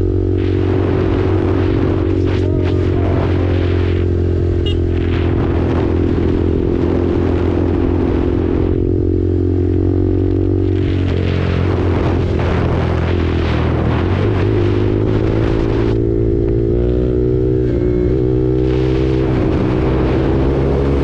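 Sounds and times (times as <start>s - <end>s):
wind noise on microphone: 0.0s - 9.6s, 10.2s - 21.0s
motorcycle engine running: 0.0s - 21.0s.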